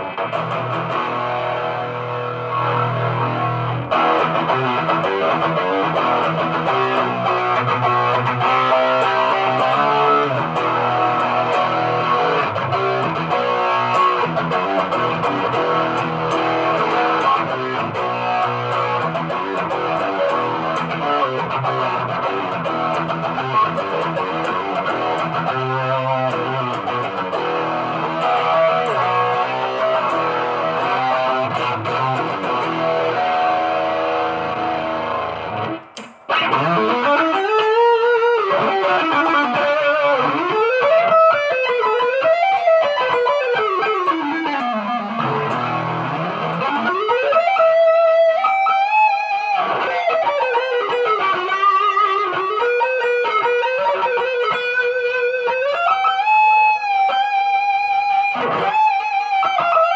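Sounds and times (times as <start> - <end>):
electric guitar chords: 0.0 - 59.9
electric guitar lead line bending: 0.0 - 59.9.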